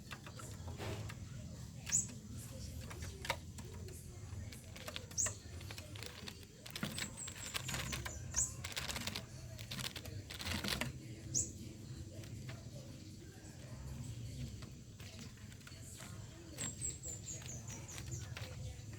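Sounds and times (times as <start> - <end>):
bird chirping: 0.0 - 18.9
rustling and crackling: 0.0 - 18.9.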